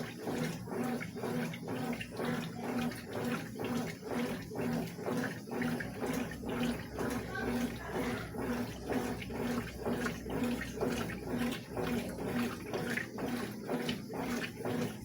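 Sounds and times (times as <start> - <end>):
washing machine sloshing: 0.0 - 15.0.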